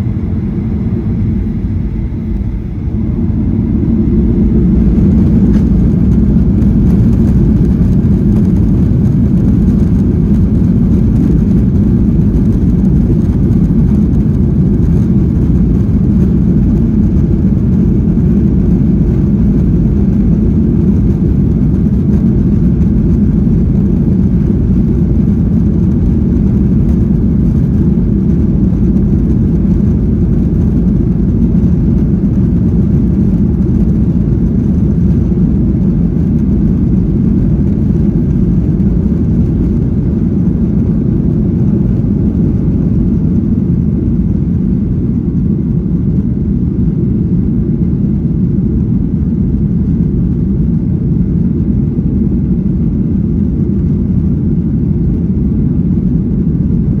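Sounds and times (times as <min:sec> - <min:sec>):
jet engines deep rumble: 0:00.0 - 0:57.0.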